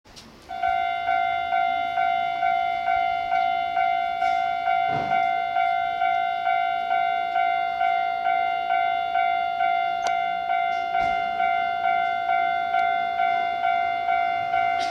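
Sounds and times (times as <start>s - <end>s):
level-crossing warning bell ringing: 0.5s - 14.9s
train passing: 0.5s - 14.9s.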